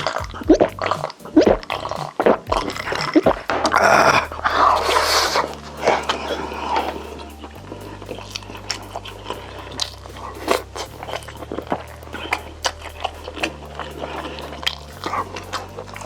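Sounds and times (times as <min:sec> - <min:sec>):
chewing and biting food: 0:00.0 - 0:16.0.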